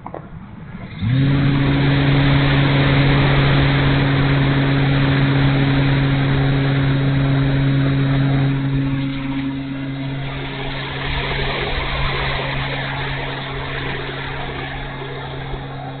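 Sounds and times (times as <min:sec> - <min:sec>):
electric motor and propeller drone: 0:00.0 - 0:16.0.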